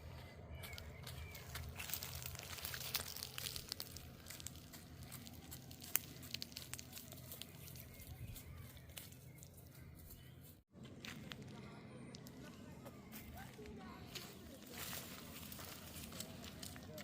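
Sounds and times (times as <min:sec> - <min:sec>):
dry vegetation rustling and crackling: 0:00.2 - 0:17.0.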